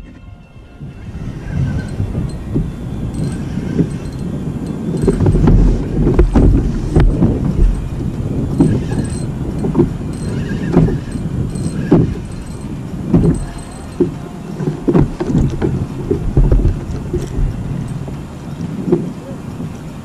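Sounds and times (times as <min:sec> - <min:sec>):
wind rumbling on microphone: 0:00.0 - 0:20.0
low thumps and knocks: 0:01.0 - 0:19.9
water slapping against kayak: 0:01.4 - 0:20.0.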